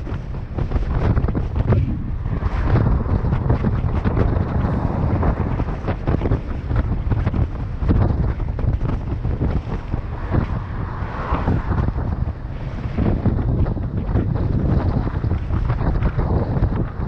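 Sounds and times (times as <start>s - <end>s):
bike rumbling on rough trail: 0.0s - 17.0s
wind buffeting microphone: 0.0s - 17.0s.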